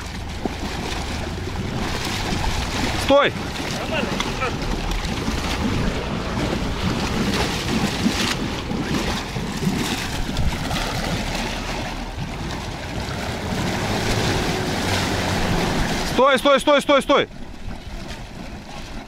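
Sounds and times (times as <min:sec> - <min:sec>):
car engine running low: 0:00.0 - 0:19.0
water churning and sloshing: 0:00.0 - 0:19.0.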